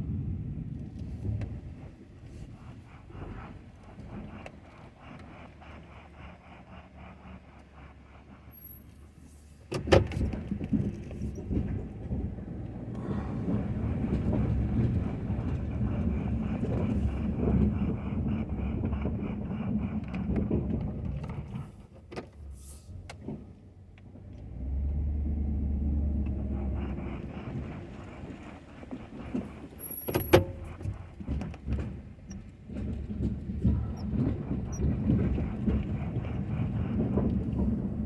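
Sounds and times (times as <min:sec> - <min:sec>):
truck engine under load: 0:00.0 - 0:38.0.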